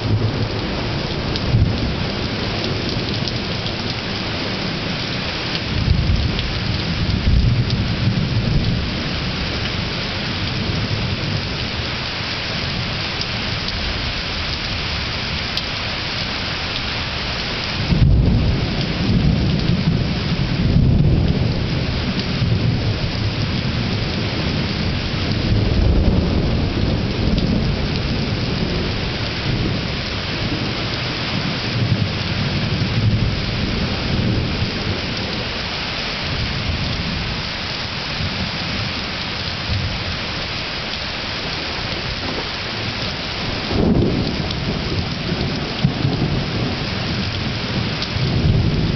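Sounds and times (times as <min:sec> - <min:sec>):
thunder rumbling: 0:00.0 - 0:12.0, 0:17.1 - 0:48.9
steady rain: 0:00.0 - 0:48.9.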